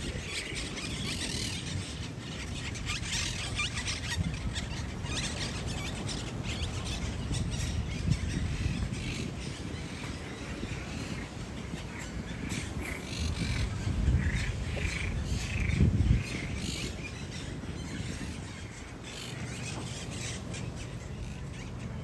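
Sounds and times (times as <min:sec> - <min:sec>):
birds making harsh calls: 0:00.0 - 0:22.0.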